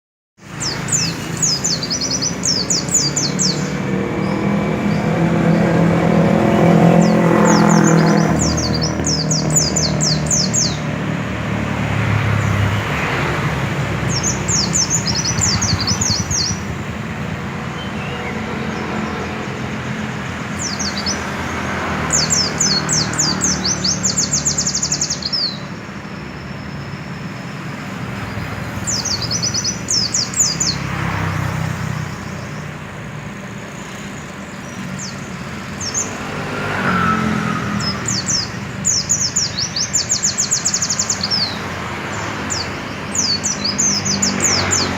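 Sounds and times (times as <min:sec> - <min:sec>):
bird twittering trills: 0:00.5 - 0:44.9.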